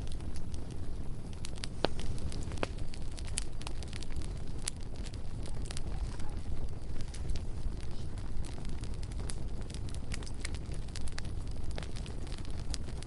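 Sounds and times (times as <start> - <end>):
bonfire crackling: 0.0 - 13.0
low rumble of flames: 0.0 - 13.0.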